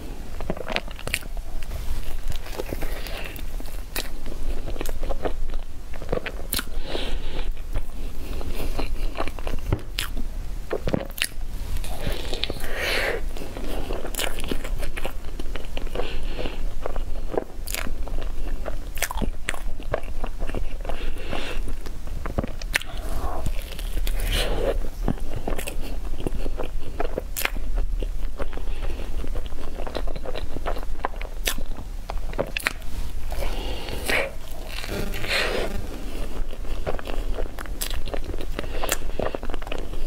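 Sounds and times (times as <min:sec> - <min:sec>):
biting and chewing pastry: 0:00.3 - 0:40.0.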